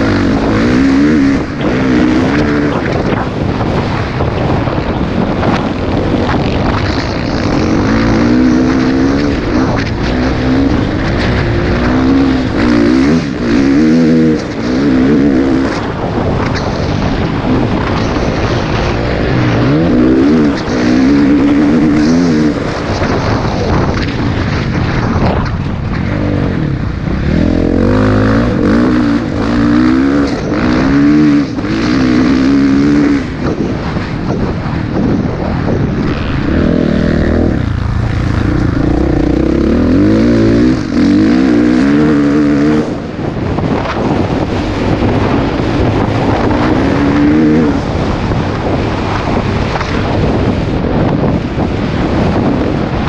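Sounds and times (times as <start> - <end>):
dirt bike engine revving: 0.0 - 53.0
wind buffeting microphone: 0.0 - 53.0.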